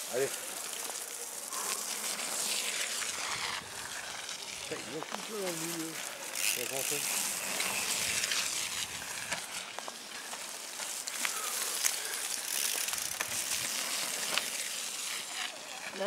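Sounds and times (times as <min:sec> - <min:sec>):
bike tyres rolling over leaves: 0:00.0 - 0:16.0.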